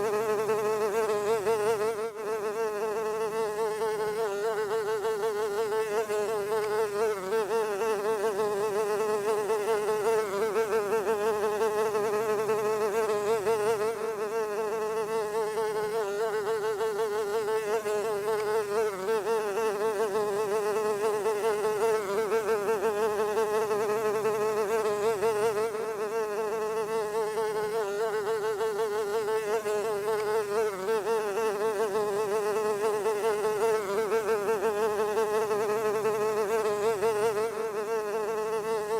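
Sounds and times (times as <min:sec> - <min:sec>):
fly buzzing: 0:00.0 - 0:38.9.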